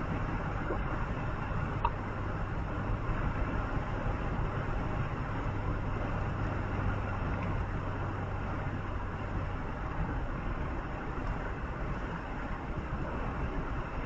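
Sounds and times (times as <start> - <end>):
tyre and road noise: 0.0 - 14.0
vehicle engine hum: 0.0 - 14.0.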